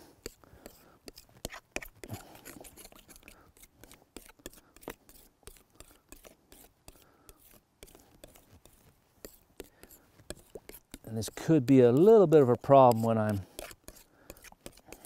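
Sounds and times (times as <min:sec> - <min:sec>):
paint mixing clicks and scrapes: 0:00.0 - 0:15.0.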